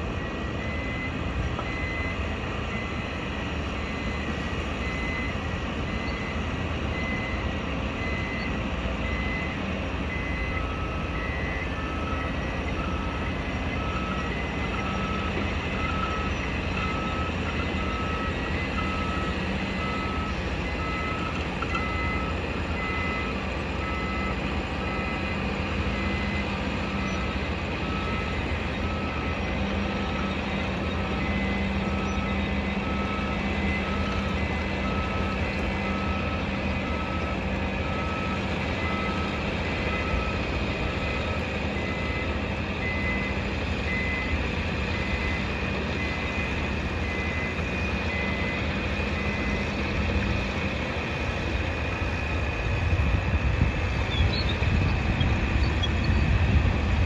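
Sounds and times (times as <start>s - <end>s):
rumble of engines and machinery: 0.0s - 57.0s
lower-pitched reversing alarm: 0.1s - 54.7s
high reversing alarm beeping: 0.2s - 52.3s.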